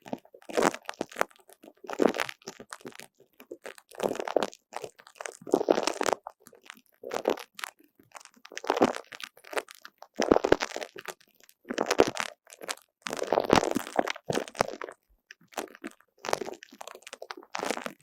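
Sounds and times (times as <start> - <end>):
squishy toy squelching: 0.1 - 18.0.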